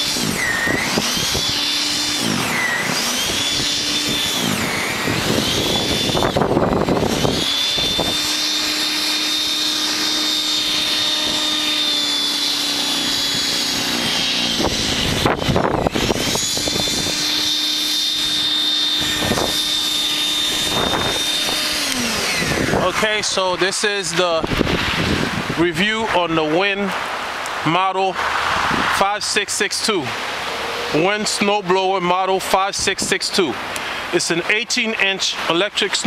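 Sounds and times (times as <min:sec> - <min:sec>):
electric snow thrower whining: 0:00.0 - 0:25.6, 0:28.2 - 0:34.2.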